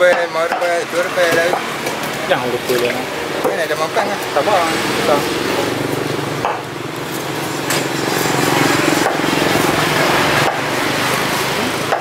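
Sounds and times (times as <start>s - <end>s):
engine running: 0.7s - 12.0s.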